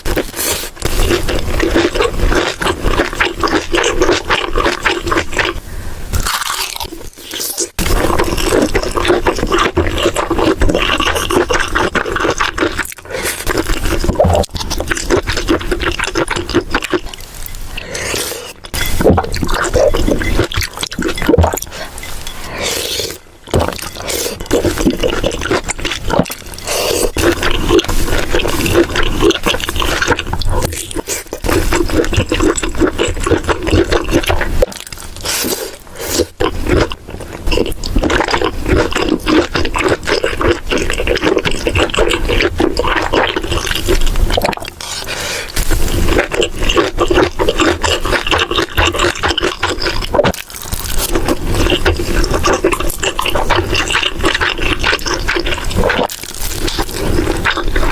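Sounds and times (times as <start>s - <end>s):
wet chewing and mouth smacking: 0.0s - 57.9s.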